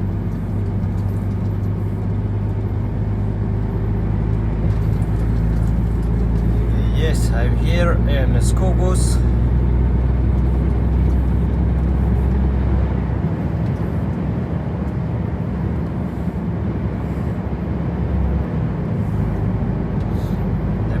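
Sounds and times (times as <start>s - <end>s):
truck engine running: 0.0s - 21.0s
tyre and road noise: 0.0s - 21.0s.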